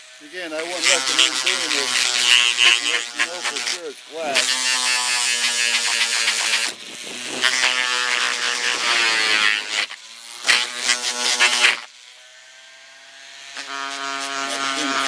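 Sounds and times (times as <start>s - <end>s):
electric buffing tool buzzing: 0.0s - 15.0s.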